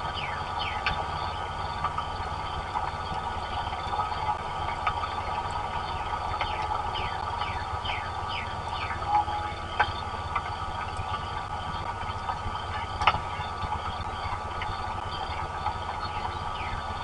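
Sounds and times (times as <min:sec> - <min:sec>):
sharp drip-like clicks: 0:00.0 - 0:17.0
steady rain rumble: 0:00.0 - 0:17.0.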